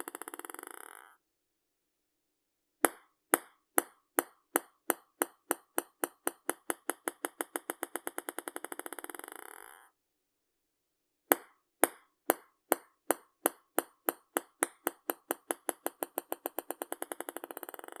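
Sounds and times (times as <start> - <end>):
ping pong ball bouncing: 0.0 - 1.2, 2.8 - 9.8, 11.3 - 18.0.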